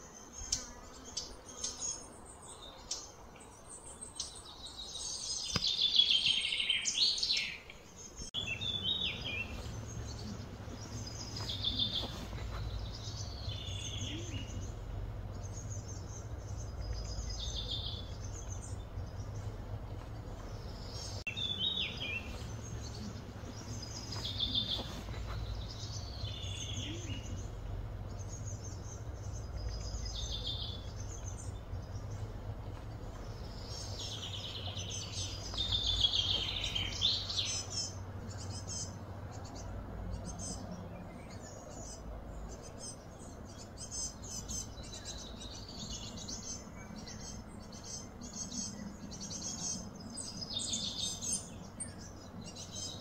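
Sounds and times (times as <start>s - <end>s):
songbirds singing: 0.0s - 53.0s
steady low rumble: 8.3s - 52.8s.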